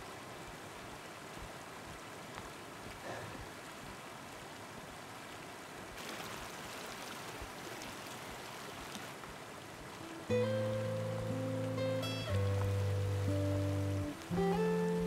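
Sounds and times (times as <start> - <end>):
stream babbling over stones: 0.0 - 15.0.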